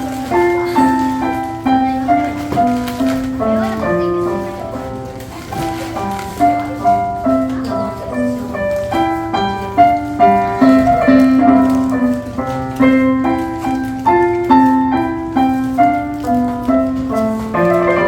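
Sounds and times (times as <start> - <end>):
solo piano melody: 0.0 - 18.0.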